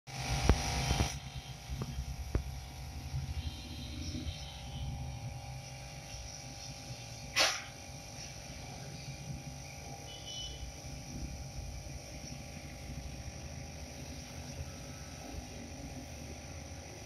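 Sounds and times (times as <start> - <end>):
aquarium pump humming: 0.1 - 17.0.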